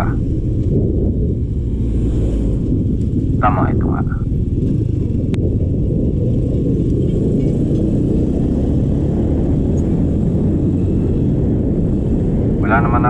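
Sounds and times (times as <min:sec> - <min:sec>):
motorcycle engine rumble: 0:00.0 - 0:13.0
wind: 0:00.0 - 0:13.0.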